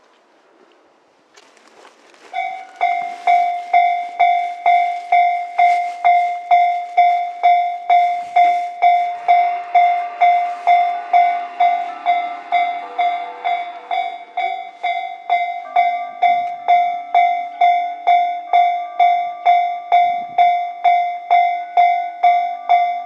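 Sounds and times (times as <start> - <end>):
rail vehicle running noise: 0.0 - 23.0
level-crossing warning bell dinging: 2.3 - 23.0.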